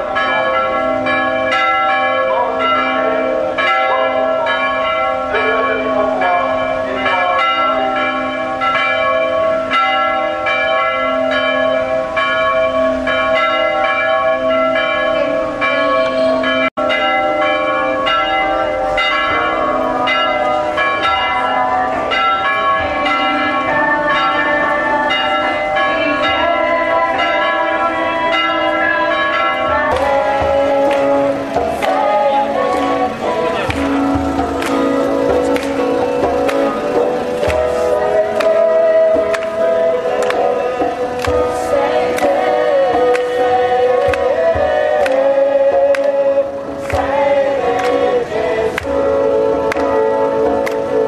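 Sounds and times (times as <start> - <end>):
church bells pealing: 0.0 - 51.0.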